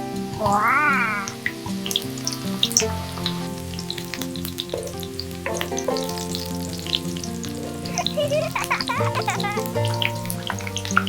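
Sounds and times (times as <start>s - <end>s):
background music with held notes: 0.0s - 11.0s
food sizzling in a pan: 0.0s - 11.0s.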